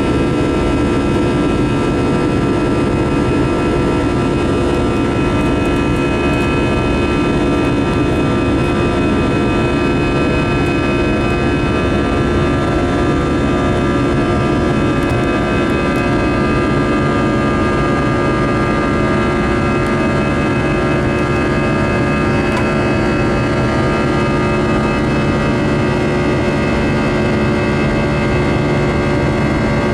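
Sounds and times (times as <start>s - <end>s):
jet engines humming: 0.0s - 29.9s
steady whining tones: 0.0s - 29.9s.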